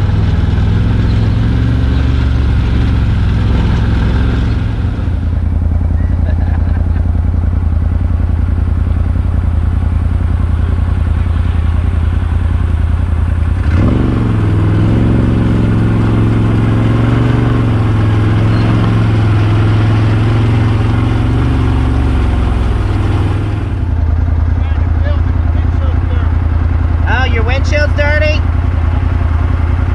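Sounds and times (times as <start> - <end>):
off-road vehicle engine running: 0.0 - 29.9.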